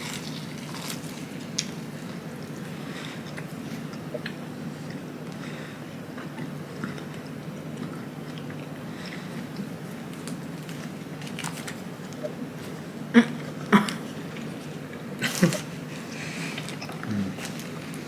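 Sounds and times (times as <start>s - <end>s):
people chewing food: 0.0s - 18.0s.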